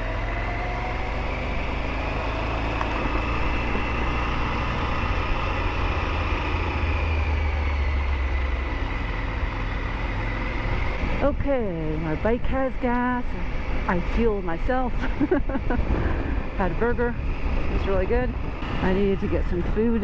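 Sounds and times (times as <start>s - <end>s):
wind rumble on microphone: 0.0s - 8.4s, 10.3s - 20.0s
motorcycle engine running: 0.0s - 20.0s.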